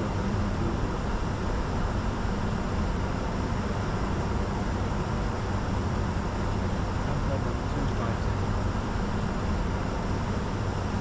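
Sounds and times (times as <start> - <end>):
jet cockpit rumble and hiss: 0.0 - 11.0.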